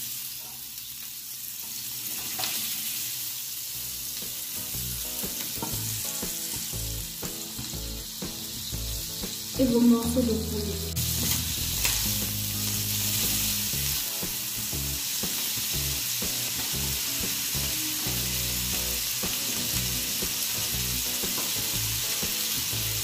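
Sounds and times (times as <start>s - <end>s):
chicken sizzling in a pan: 0.0s - 23.0s.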